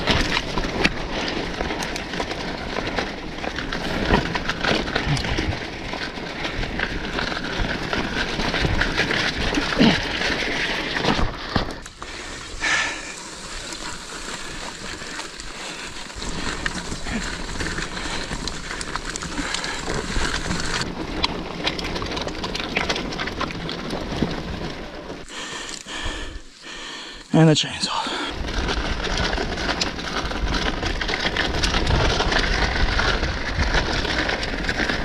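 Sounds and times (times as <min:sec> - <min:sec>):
tyre and wind noise: 0:00.0 - 0:25.3, 0:28.2 - 0:35.0
bike clicks and rattles: 0:00.0 - 0:27.3, 0:28.1 - 0:35.0.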